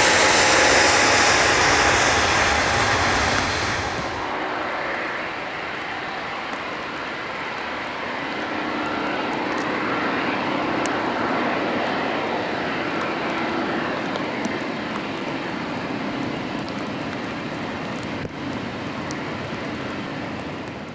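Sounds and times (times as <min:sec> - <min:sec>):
jet engines at take-off: 0:00.0 - 0:20.9.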